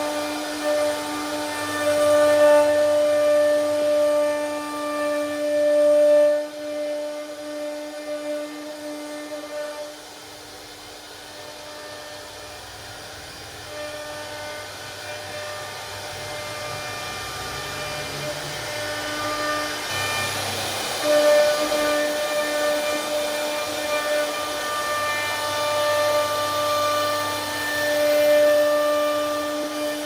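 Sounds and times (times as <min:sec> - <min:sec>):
router cutting wood: 0:00.0 - 0:30.0
router spindle whining: 0:00.0 - 0:30.0.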